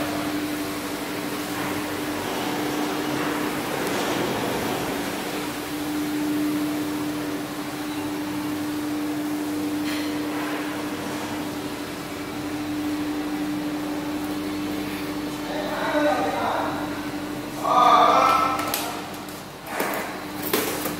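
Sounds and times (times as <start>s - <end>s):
steady mechanical hum: 0.0s - 20.9s.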